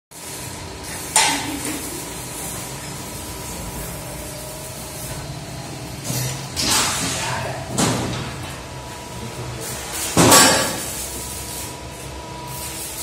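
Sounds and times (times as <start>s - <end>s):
workshop hiss and hum: 0.1s - 13.0s.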